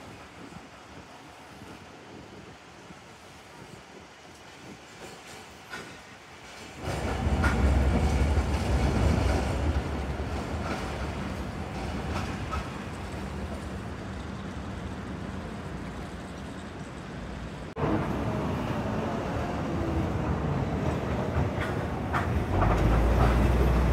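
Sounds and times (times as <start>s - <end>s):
streetcar rumbling along track: 0.0s - 23.9s.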